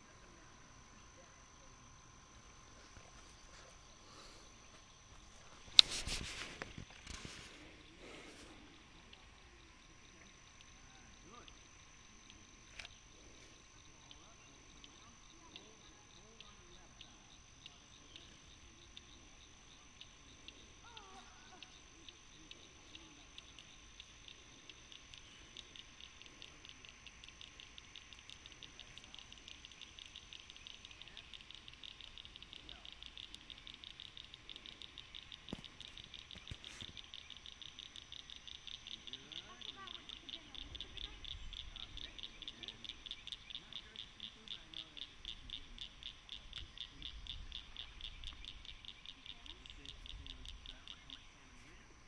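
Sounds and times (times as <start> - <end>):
thin steady high whine: 0.0 - 52.0
rapid high-pitched animal clicking: 0.1 - 52.0.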